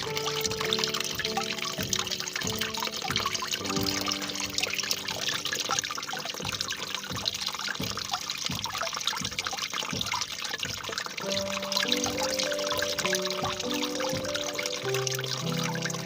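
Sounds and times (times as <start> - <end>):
soft instrumental music: 0.0 - 16.0
water trickling and babbling: 0.0 - 16.0.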